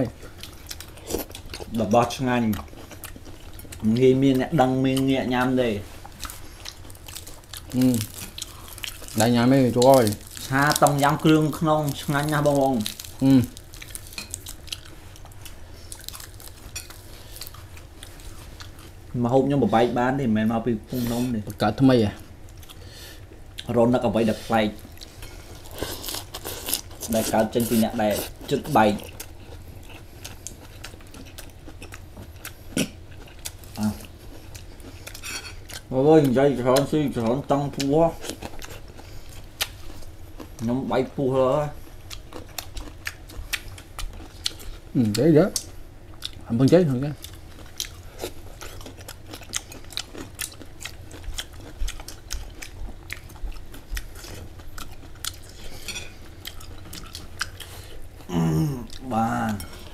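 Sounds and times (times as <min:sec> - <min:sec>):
person chewing: 0:00.1 - 0:19.0, 0:22.1 - 0:40.7, 0:41.8 - 0:59.9.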